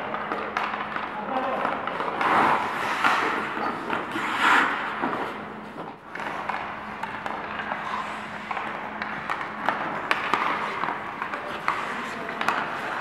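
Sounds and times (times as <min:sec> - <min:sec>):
skate blades scraping ice: 0:00.0 - 0:13.0
steady low hum: 0:00.0 - 0:13.0
sticks and pucks clacking: 0:00.0 - 0:13.0.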